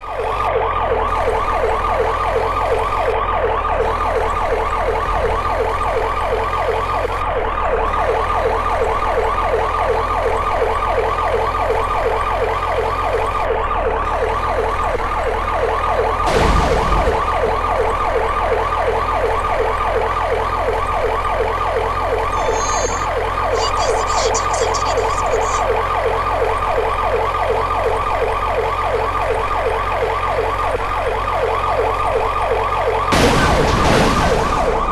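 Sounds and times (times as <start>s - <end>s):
police siren yelping: 0.0s - 34.9s.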